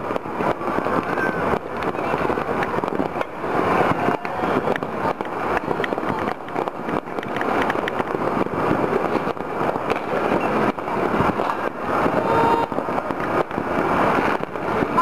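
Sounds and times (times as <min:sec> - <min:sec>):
distant fireworks and firecrackers: 0:00.0 - 0:15.0
sharp firework cracks: 0:00.0 - 0:15.0.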